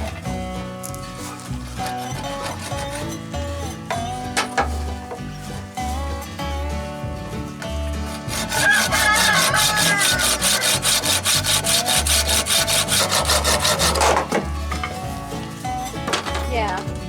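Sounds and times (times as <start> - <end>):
background music: 0.0 - 17.0
saw cutting hard wood: 0.0 - 17.0.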